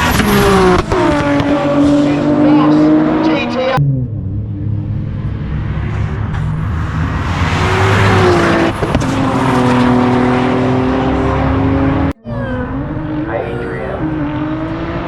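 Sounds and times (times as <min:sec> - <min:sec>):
car engines accelerating: 0:00.0 - 0:15.0.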